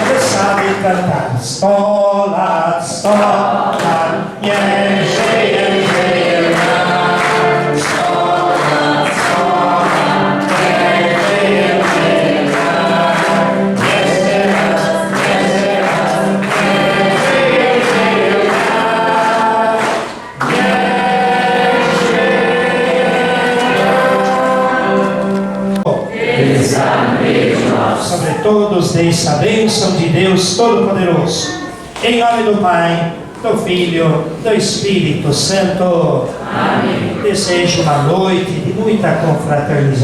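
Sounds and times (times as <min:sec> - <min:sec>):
congregation singing a hymn: 0:00.0 - 0:40.0.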